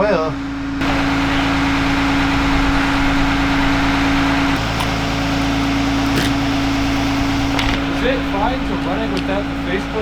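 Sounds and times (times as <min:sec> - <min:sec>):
machine running with hum: 0:00.0 - 0:10.0.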